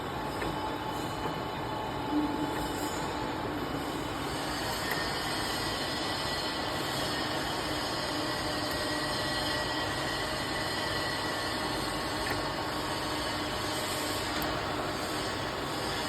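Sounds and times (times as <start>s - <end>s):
milling machine running: 0.0s - 16.0s.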